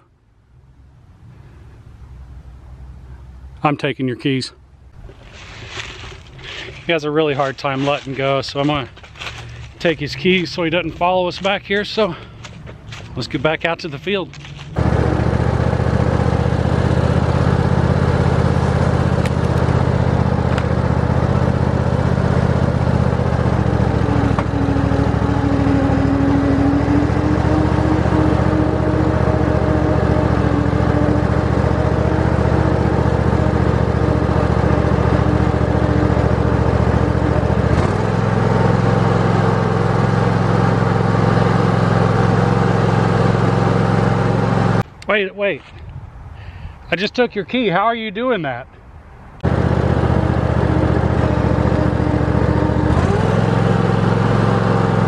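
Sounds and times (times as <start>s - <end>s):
lawn tractor engine running: 5.0s - 45.1s, 49.4s - 55.0s.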